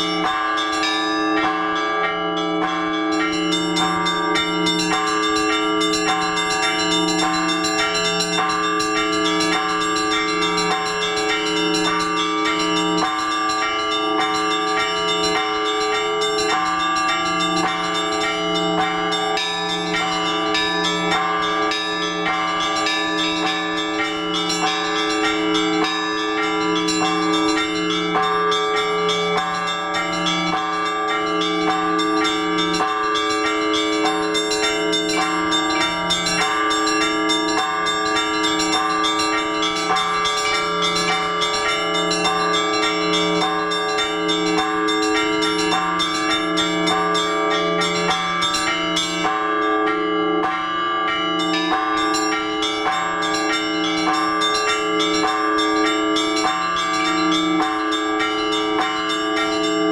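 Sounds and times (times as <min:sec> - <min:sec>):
low church bell: 0:00.0 - 0:59.9
smaller bells ringing: 0:00.0 - 0:59.9.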